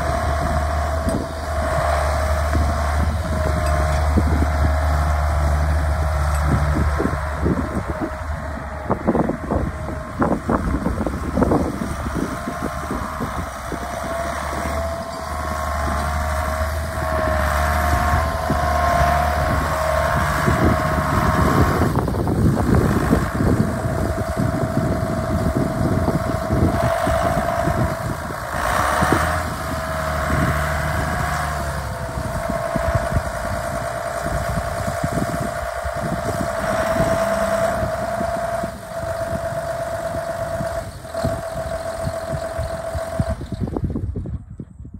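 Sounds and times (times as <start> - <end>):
steady whine: 0.0 - 43.9
tractor diesel engine running: 0.0 - 44.9.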